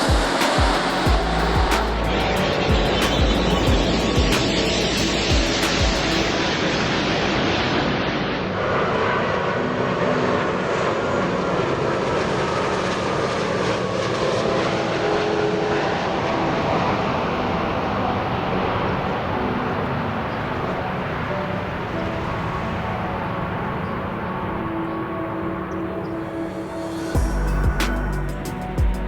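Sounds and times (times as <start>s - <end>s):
jet engines rushing with whine: 0.0s - 28.9s.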